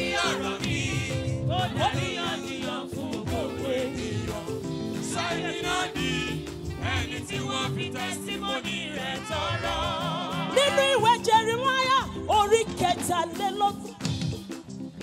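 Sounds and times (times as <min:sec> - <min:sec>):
gospel choir singing: 0:00.0 - 0:12.8
lead singer: 0:00.0 - 0:14.1.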